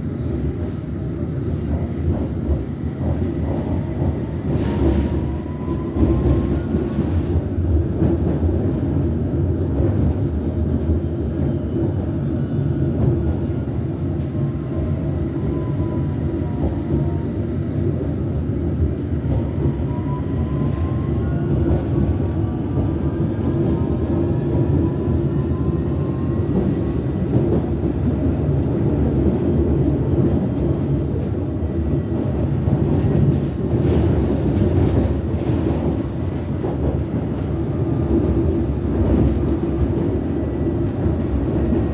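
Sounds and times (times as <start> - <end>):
underground train rumble: 0.0 - 41.9.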